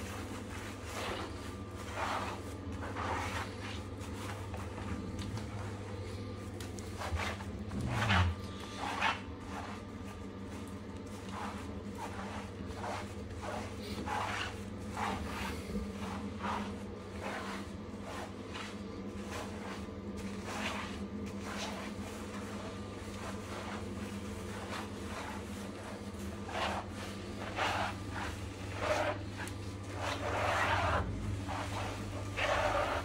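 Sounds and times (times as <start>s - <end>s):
brush scrubbing wet fur: 0.0s - 33.0s
steady low hum: 0.0s - 33.0s.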